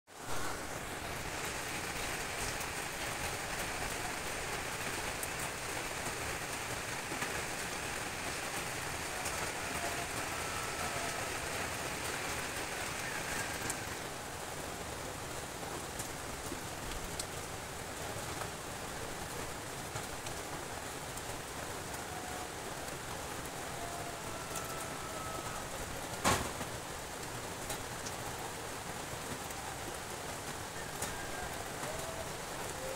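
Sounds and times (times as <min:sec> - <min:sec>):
rain on metal roofs: 0:00.1 - 0:32.9.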